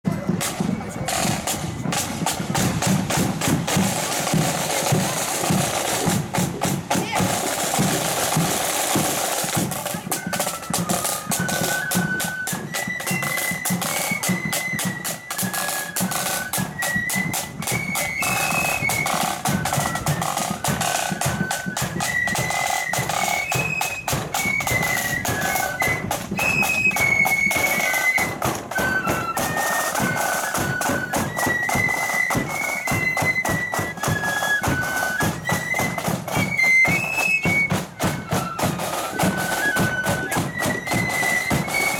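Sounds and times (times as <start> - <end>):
flutes playing melody: 0.1 - 41.9
snare drum: 0.1 - 41.9.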